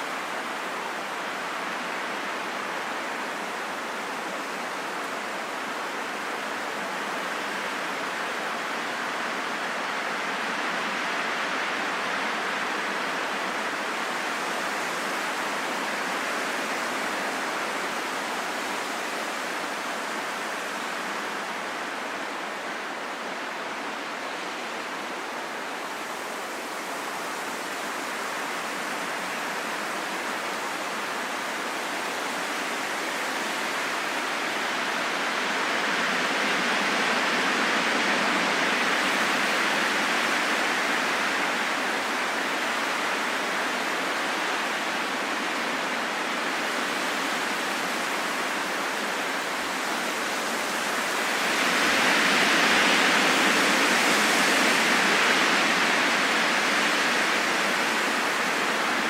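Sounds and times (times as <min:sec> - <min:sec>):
rushing wind: 0:00.0 - 0:59.0.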